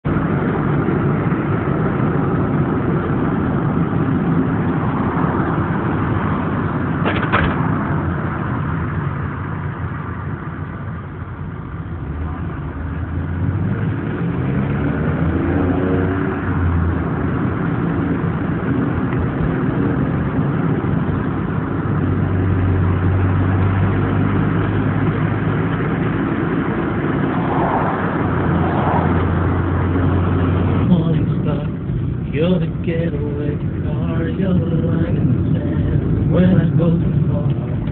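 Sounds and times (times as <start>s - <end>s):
car engine droning: 0.0s - 37.9s.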